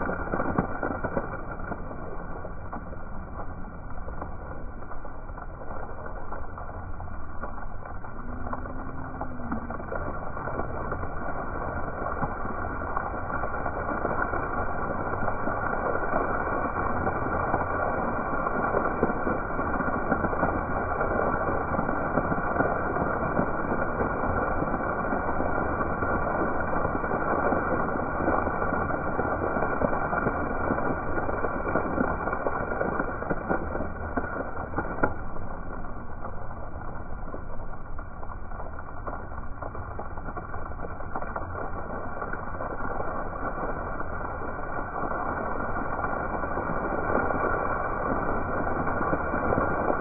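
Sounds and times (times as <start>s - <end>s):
fountain jets splashing on stone: 0.0s - 50.0s.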